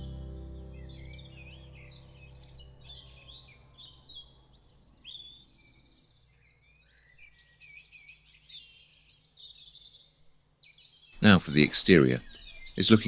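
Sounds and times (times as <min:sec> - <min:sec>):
small songbirds singing: 0:00.0 - 0:13.0.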